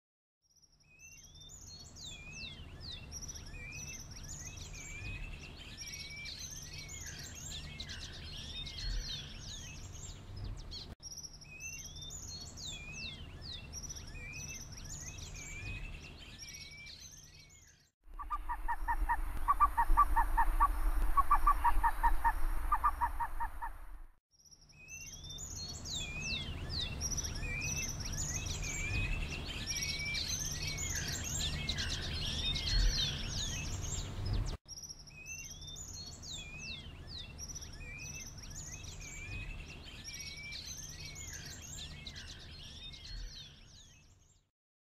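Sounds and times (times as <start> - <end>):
small birds chirping and whistling: 0.6 - 23.7, 24.5 - 44.5.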